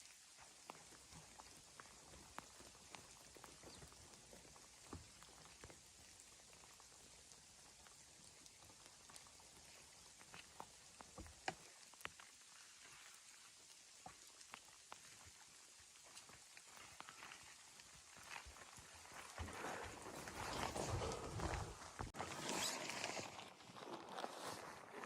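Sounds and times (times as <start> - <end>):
faint steady hiss: 0.0 - 22.6.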